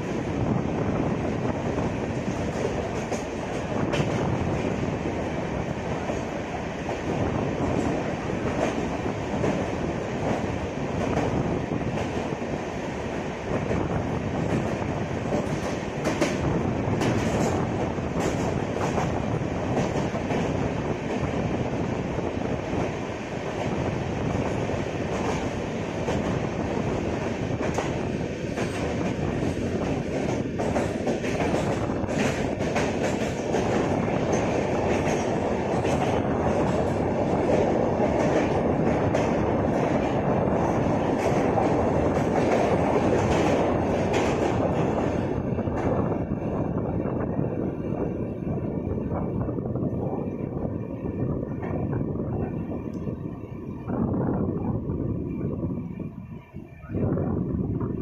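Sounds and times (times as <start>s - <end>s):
train rumbling on track: 0.0s - 58.0s.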